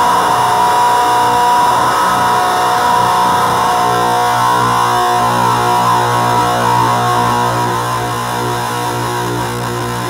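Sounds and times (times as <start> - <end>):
distorted guitar drone: 0.0 - 10.0.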